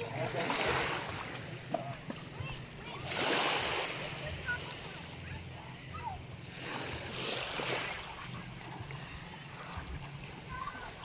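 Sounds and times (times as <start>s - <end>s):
seawater lapping: 0.0s - 11.0s.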